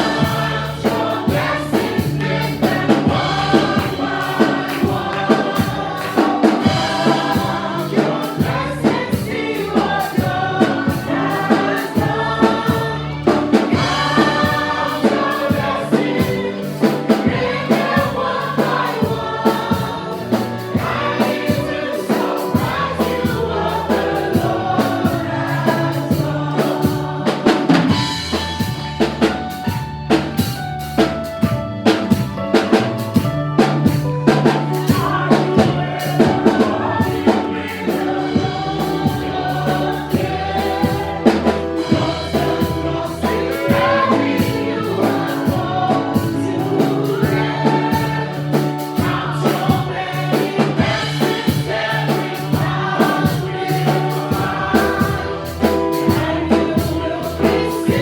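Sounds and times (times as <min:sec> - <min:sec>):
voices singing together: 0:00.0 - 0:29.3, 0:32.6 - 0:58.0
drum kit beat: 0:00.0 - 0:58.0.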